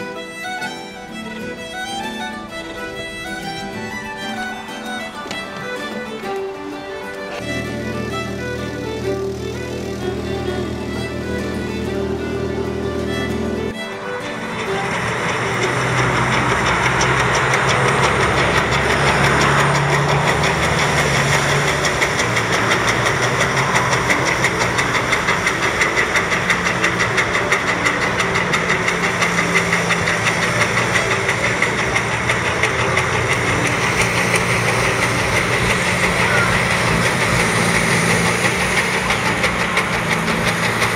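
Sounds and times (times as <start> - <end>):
paddle wheels churning water: 0.0 - 40.9
boat engine running: 2.4 - 40.9.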